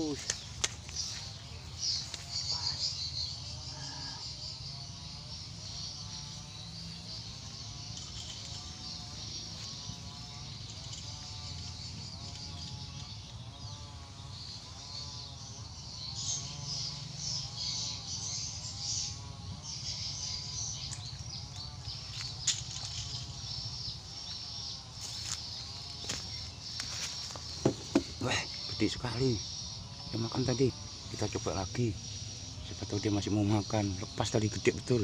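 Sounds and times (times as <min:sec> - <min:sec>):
high-pitched insect chorus: 0:00.0 - 0:35.0.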